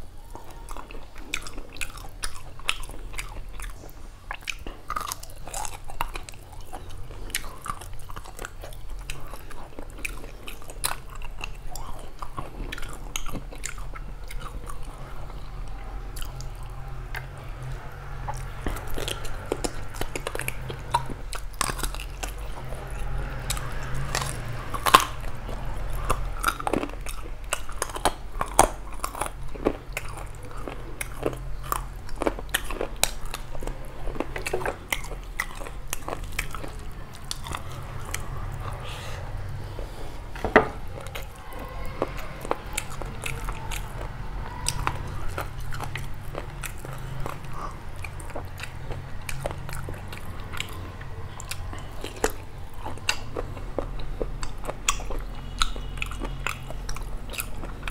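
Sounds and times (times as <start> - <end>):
wet chewing and mouth clicks: 0.0 - 57.9.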